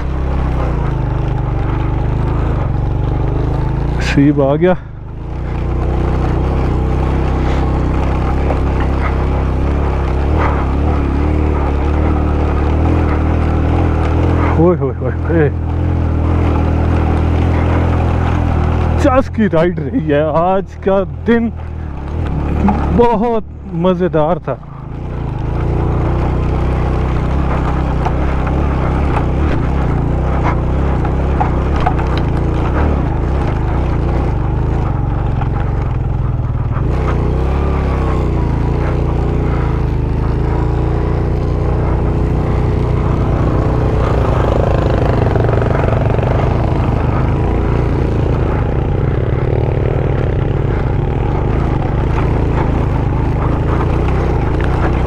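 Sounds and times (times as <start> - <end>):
motorcycle engine rumbling under load: 0.0 - 55.0.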